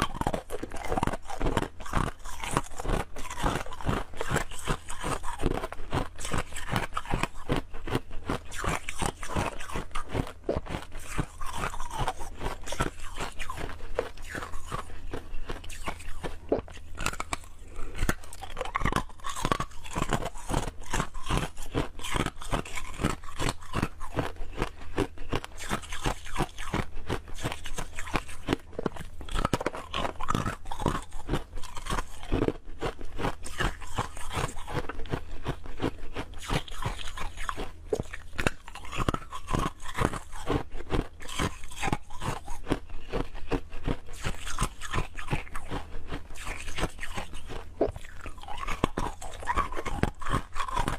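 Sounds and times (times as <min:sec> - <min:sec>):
ice cubes crunching: 0:00.0 - 0:50.9
steady low hum: 0:00.0 - 0:50.9.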